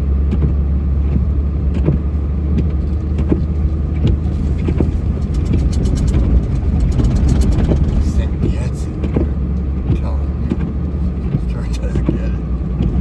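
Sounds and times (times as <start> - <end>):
snowplow engine rumbling: 0.0 - 13.0.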